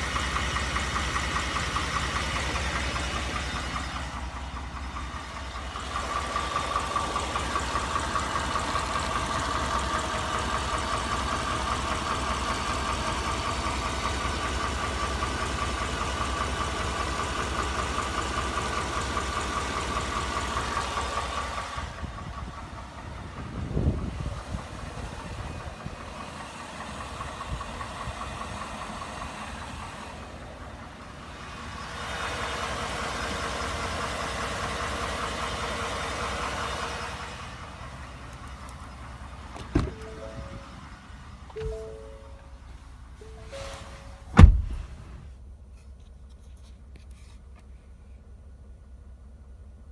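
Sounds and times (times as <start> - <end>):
engine idling with knocking: 0.0 - 43.4, 44.2 - 49.9.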